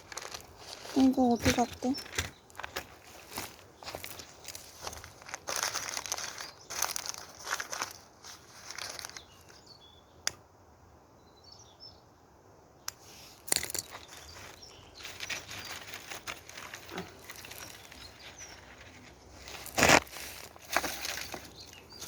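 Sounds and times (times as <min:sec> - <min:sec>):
dry twigs and leaves rustling: 0:00.0 - 0:09.7, 0:12.9 - 0:22.0.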